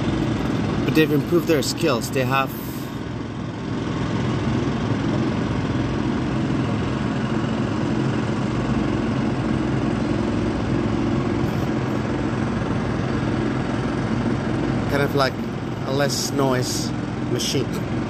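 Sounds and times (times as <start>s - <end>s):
drilling machine droning: 0.0s - 18.0s.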